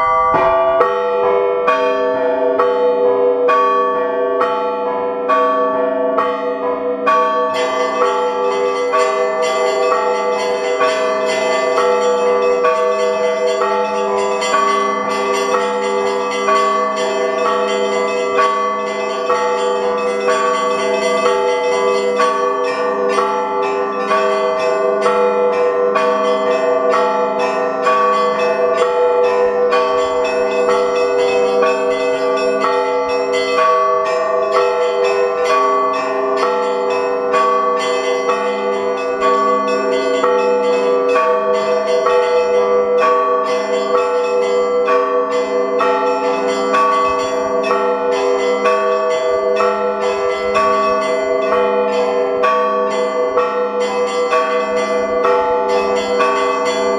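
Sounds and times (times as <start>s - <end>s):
deep bell tones: 0.0s - 56.9s.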